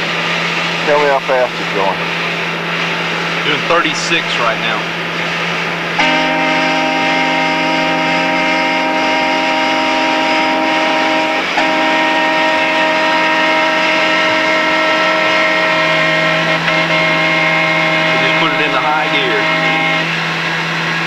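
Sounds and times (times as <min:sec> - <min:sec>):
steady low hum: 0:00.0 - 0:21.0
horn sustained chord: 0:03.5 - 0:21.0.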